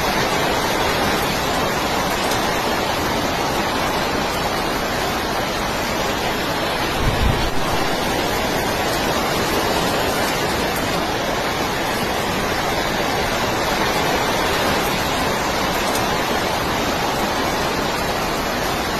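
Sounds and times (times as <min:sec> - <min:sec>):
heavy rain: 0:00.0 - 0:18.9
wind: 0:00.0 - 0:18.9.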